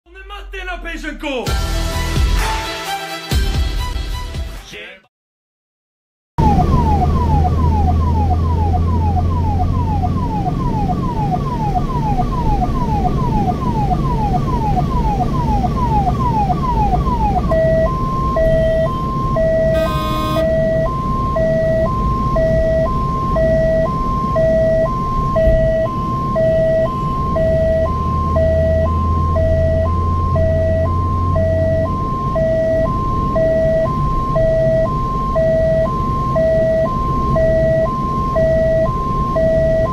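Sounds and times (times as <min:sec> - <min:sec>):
ambulance siren: 0:06.4 - 0:39.9
road and engine noise: 0:06.4 - 0:39.9.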